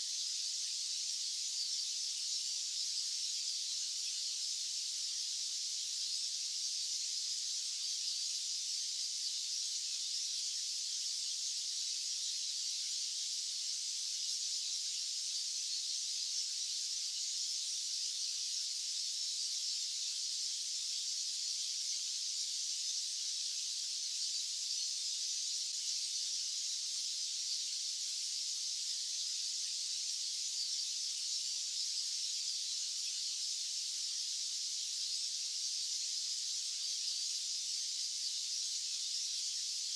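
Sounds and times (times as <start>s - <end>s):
high-pitched white noise hiss: 0.0s - 39.9s.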